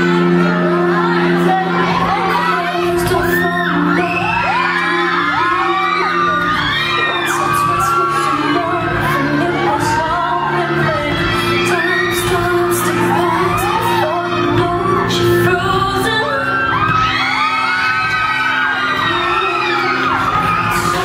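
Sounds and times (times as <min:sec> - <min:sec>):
pop song over sound system: 0:00.0 - 0:21.0.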